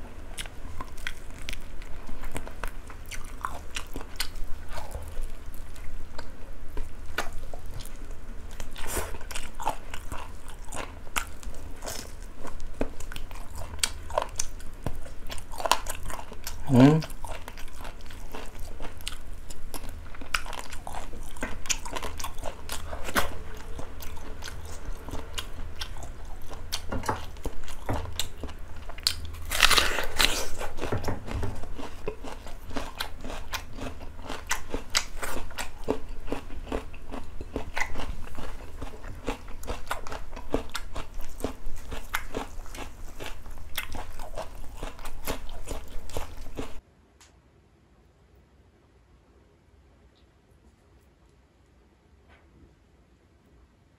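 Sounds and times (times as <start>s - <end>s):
person chewing and crunching food: 0.0s - 46.8s.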